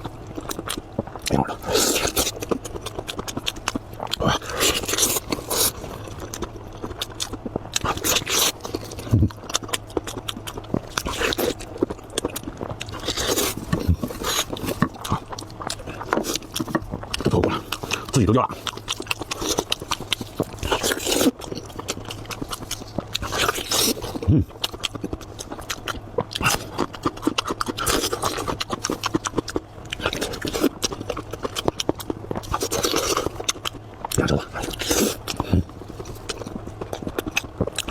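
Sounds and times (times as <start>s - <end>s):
person chewing and biting meat: 0.0s - 37.9s
sharp clicks and crunches: 0.0s - 37.9s.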